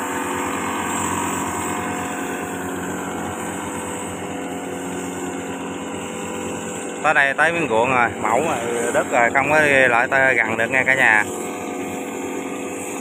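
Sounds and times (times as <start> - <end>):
two-stroke engine running at high speed: 0.0 - 13.0.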